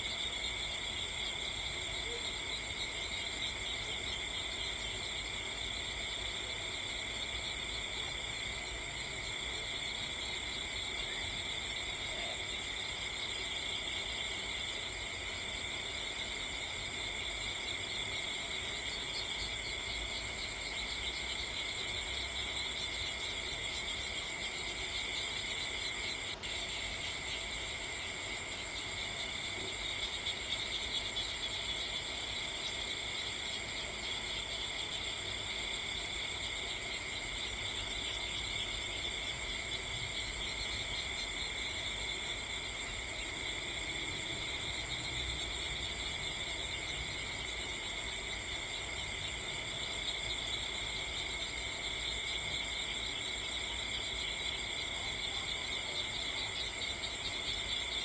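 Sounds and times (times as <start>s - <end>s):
crickets and night insects trilling: 0.0s - 58.0s.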